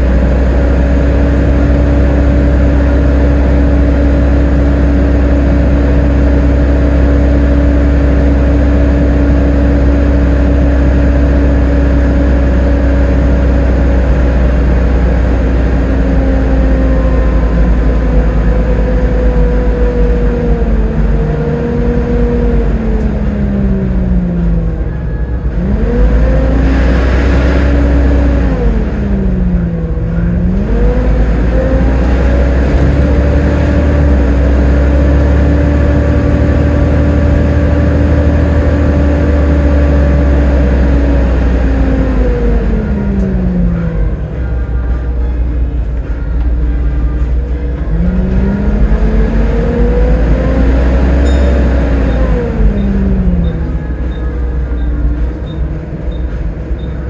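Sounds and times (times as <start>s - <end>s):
bus diesel engine rumbling: 0.0s - 57.0s
bus transmission whine: 0.0s - 57.0s.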